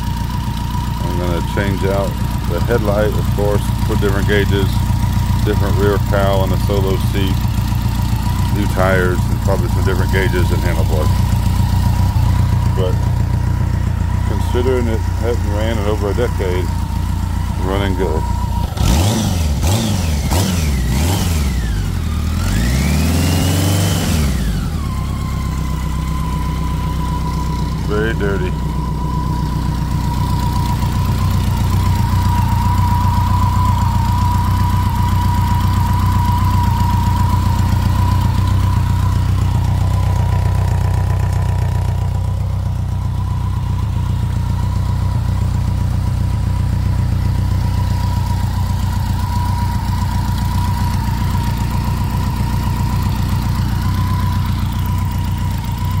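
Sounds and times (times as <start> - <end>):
thin steady whine: 0.0 - 7.4, 8.1 - 18.8, 24.9 - 56.0
motorcycle engine idling: 0.0 - 56.0.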